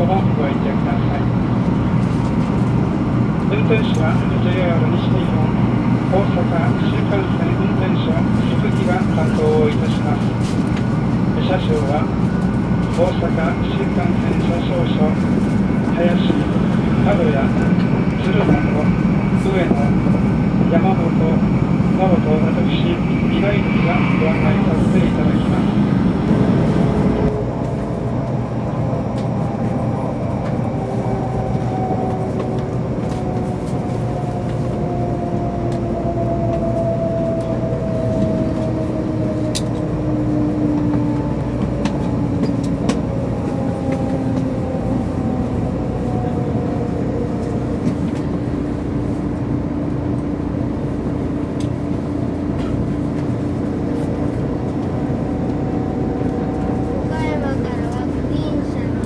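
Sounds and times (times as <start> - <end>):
train interior rumble and hiss: 0.0 - 59.0.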